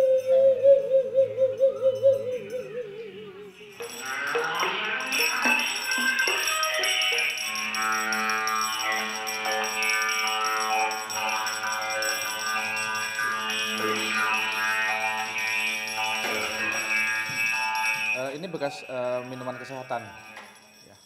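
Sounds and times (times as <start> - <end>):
bowed bottle instrument music: 0.0 - 21.0.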